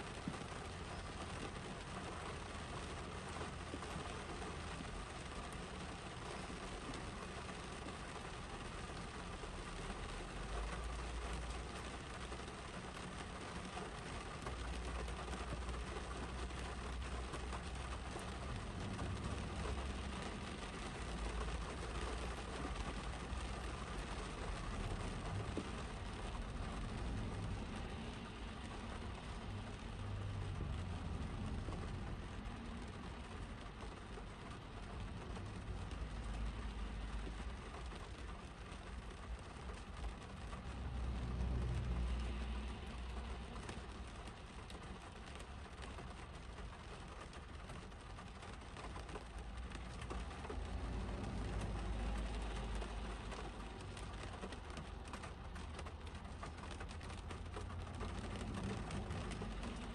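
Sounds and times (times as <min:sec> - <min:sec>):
cars passing on wet road: 0:00.0 - 0:59.9
rain on car roof: 0:00.0 - 0:59.9.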